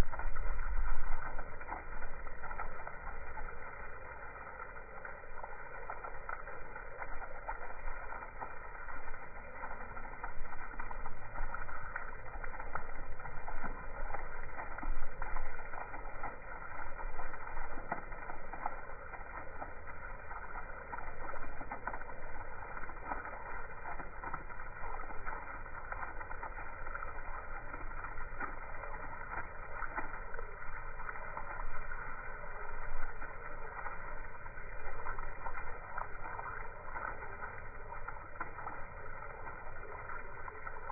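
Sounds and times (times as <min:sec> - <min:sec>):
water pouring and splashing on lawn: 0:00.0 - 0:40.9.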